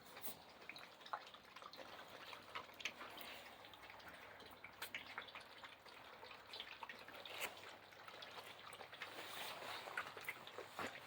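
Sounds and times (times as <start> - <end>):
puppies lapping and chewing: 0.0 - 11.0.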